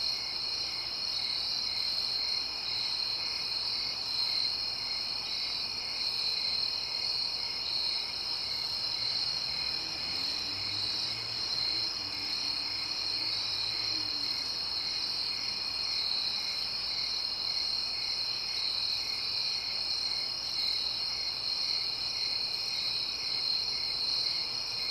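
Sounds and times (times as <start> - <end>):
low insect chirp: 0.0 - 24.9.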